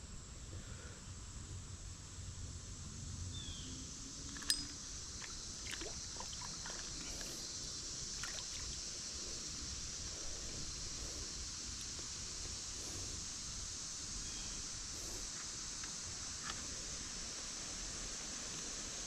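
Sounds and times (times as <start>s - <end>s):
creek hiss: 0.0s - 19.0s.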